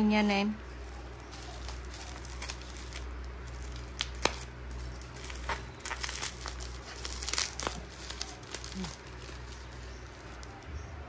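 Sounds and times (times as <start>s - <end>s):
low steady hum: 0.0s - 11.0s
packaging crinkling and tearing: 0.6s - 10.7s.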